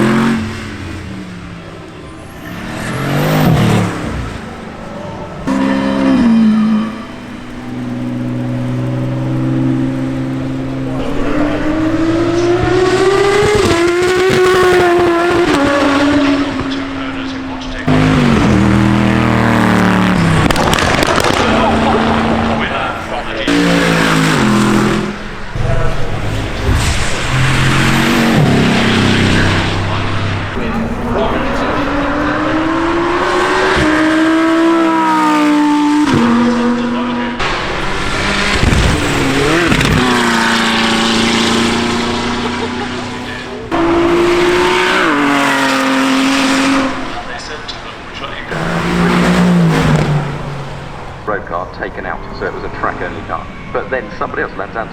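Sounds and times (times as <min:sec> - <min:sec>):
car engine accelerating hard: 0:00.0 - 0:54.9.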